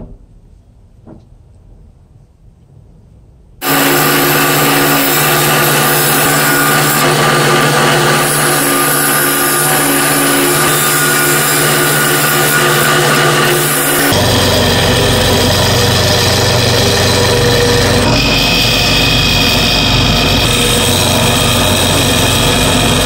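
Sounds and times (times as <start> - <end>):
lathe motor hum: 3.6 - 23.0.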